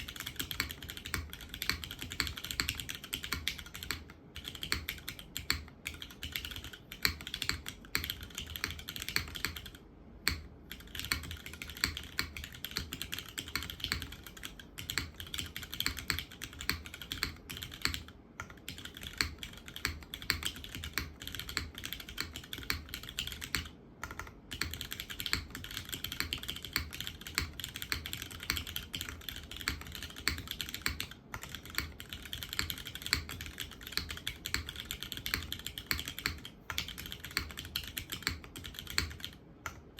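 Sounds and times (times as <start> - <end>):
fast typing on mechanical keyboard: 0.0 - 39.8.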